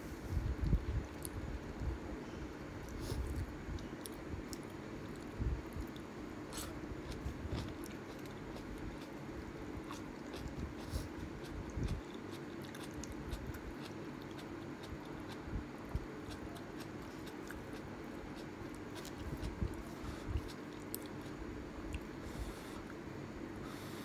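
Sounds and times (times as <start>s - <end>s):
chewing noodles: 2.8s - 22.1s.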